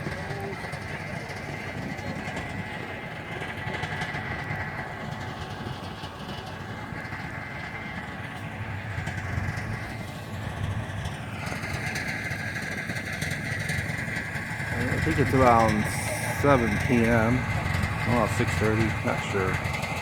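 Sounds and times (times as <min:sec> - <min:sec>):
vehicle engines idling in traffic: 0:00.0 - 0:20.0.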